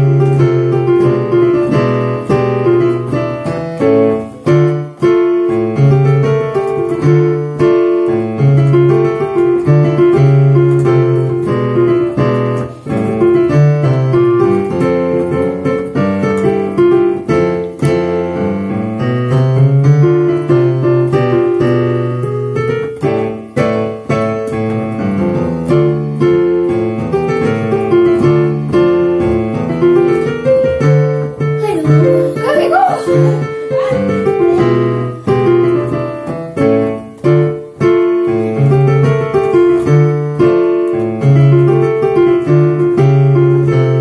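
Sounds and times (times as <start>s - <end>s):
piano piece: 0.0s - 44.0s.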